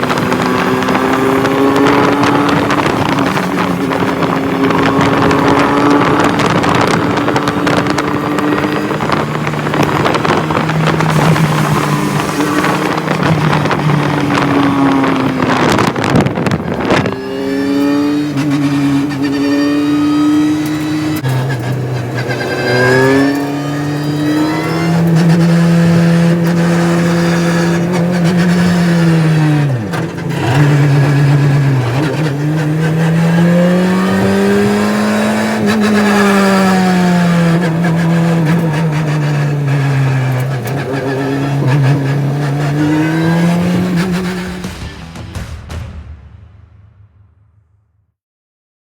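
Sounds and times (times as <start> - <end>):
rally car engine running hard: 0.0 - 45.4.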